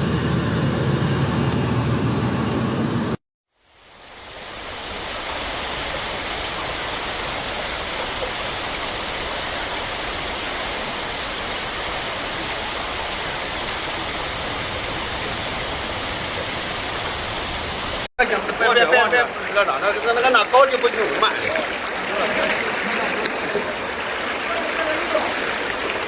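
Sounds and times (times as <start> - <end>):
rushing water: 3.6 - 26.0.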